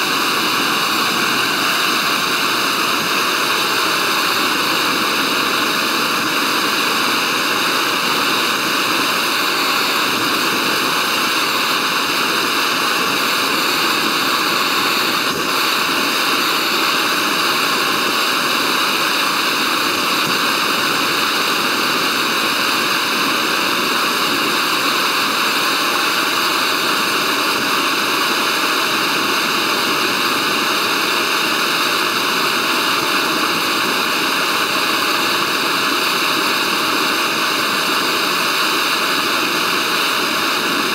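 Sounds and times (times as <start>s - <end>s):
gas stove hissing: 0.0s - 40.9s.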